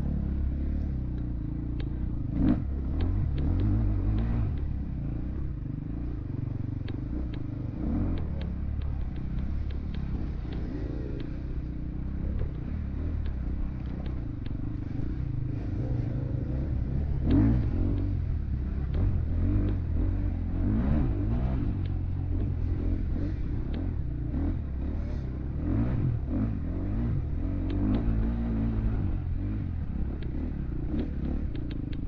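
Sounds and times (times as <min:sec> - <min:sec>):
light clatter ticks: 0:00.0 - 0:32.0
dirt bike engine revving: 0:01.8 - 0:32.0.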